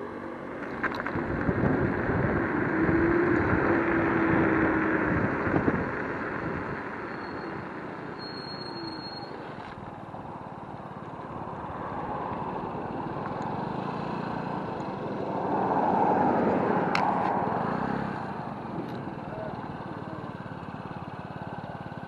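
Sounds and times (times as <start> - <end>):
scooter road and wind noise: 0.0 - 22.0.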